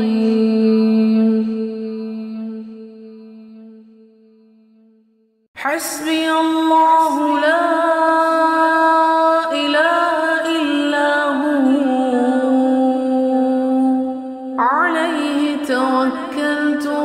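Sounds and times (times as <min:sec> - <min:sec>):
person chanting melodic recitation: 0:00.0 - 0:03.6, 0:05.6 - 0:17.0.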